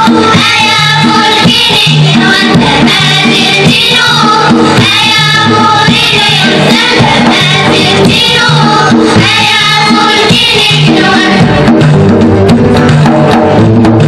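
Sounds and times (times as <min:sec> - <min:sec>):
children's choir singing: 0:00.0 - 0:11.7
keyboard lute and hand drum band: 0:00.0 - 0:14.0.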